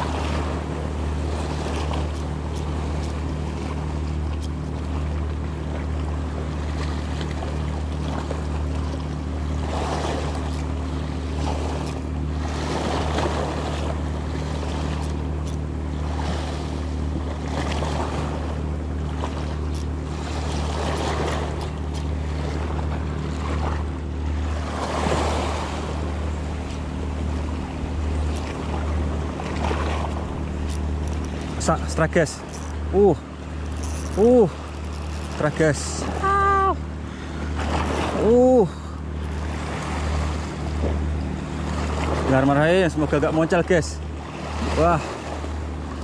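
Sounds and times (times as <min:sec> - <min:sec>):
waves splashing on rocky shore: 0:00.0 - 0:05.1, 0:08.0 - 0:46.0
steady low hum: 0:00.0 - 0:46.0.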